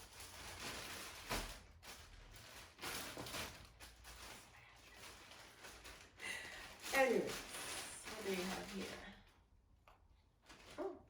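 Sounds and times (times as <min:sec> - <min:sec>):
packaging rustling: 0:00.0 - 0:09.3.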